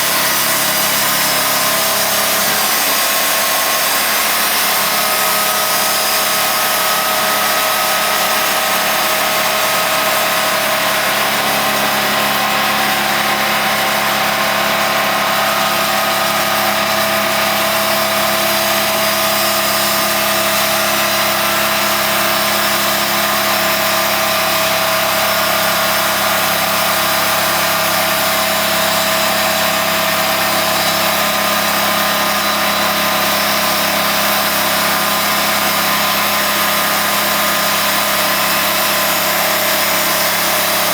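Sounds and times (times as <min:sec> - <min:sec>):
saw blade cutting wood: 0:00.0 - 0:40.9
sawmill engine hum: 0:00.0 - 0:40.9.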